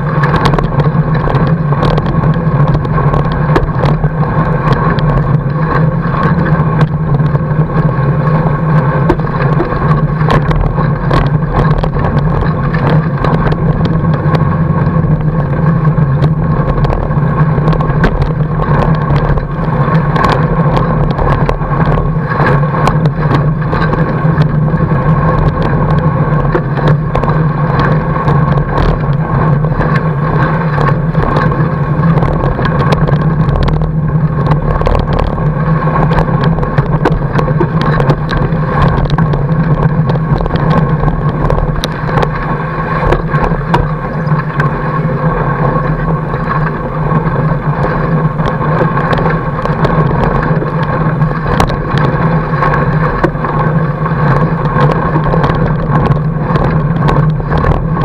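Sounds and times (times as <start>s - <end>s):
bike clicks and rattles: 0.0s - 58.0s
bike tyre humming on snow: 0.0s - 58.0s.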